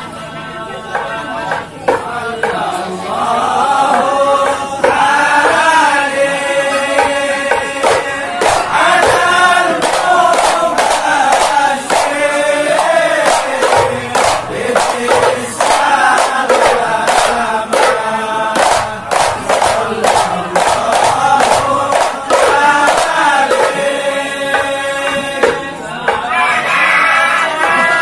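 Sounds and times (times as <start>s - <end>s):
men singing a devotional chant: 0.0s - 28.0s
hand-struck frame drums: 0.9s - 2.8s, 3.8s - 26.3s.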